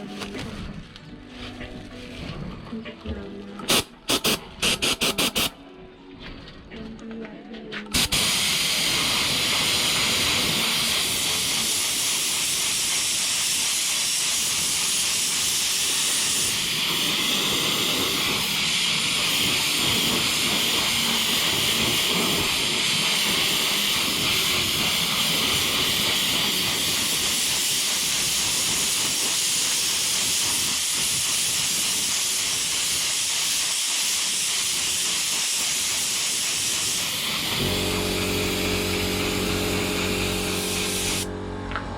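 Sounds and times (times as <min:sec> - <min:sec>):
paint spray gun hissing: 0:03.7 - 0:05.5, 0:07.9 - 0:41.3.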